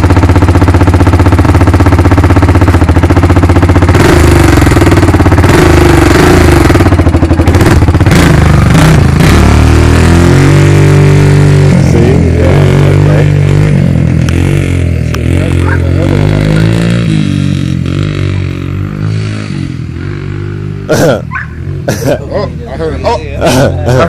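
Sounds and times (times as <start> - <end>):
quad engine revving: 0.0 - 24.0.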